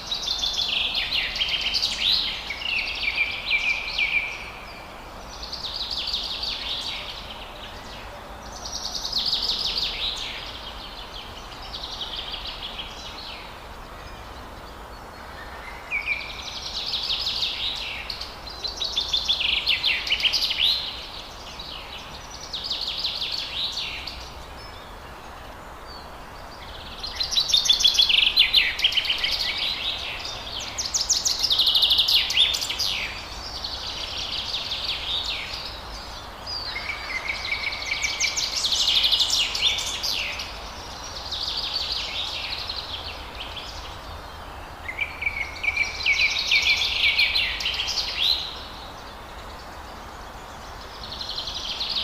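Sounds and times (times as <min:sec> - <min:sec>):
steady background hiss: 0:00.0 - 0:52.0.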